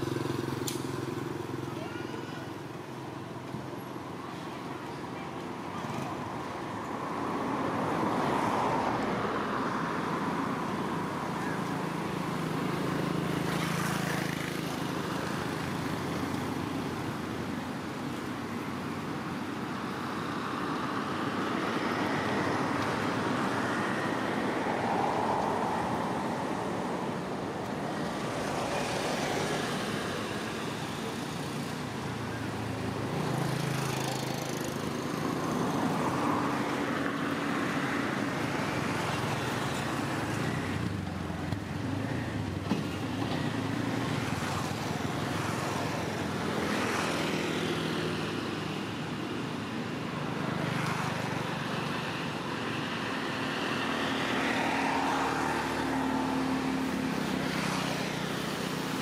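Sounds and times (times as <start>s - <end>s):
motorbikes: 0.0s - 59.0s
traffic: 0.0s - 59.0s.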